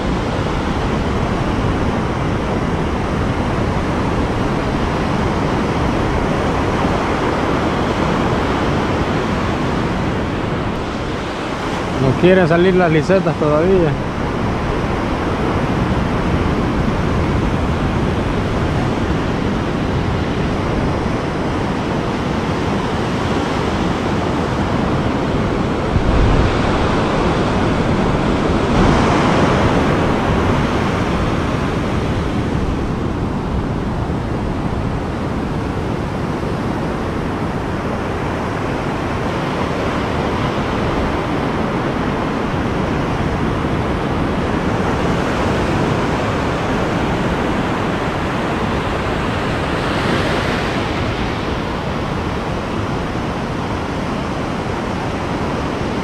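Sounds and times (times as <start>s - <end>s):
ocean surf breaking: 0.0s - 56.0s
wind rumbling on microphone: 0.0s - 56.0s.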